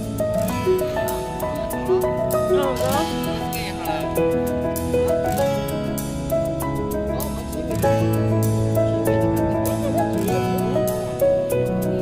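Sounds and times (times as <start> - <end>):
soft gentle background music: 0.0 - 12.0.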